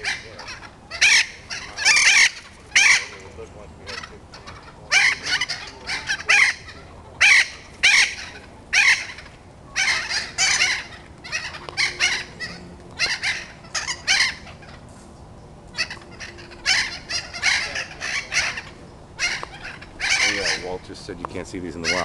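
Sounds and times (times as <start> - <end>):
parrots squawking: 0.0 - 15.0, 15.7 - 22.0.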